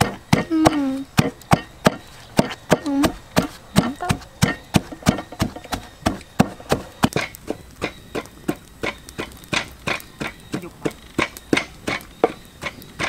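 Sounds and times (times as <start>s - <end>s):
pestle pounding in wooden mortar: 0.0s - 13.0s.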